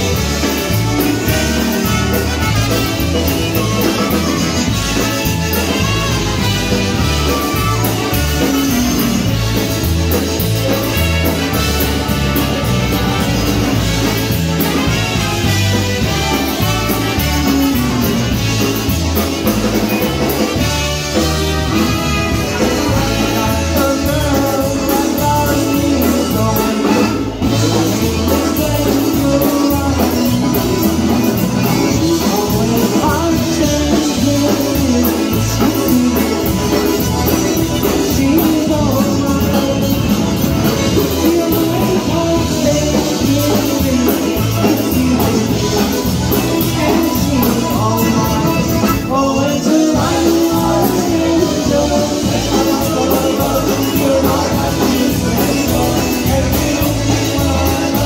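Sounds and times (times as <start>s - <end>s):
person singing: 0.0s - 58.0s
polka band playing: 0.0s - 58.0s.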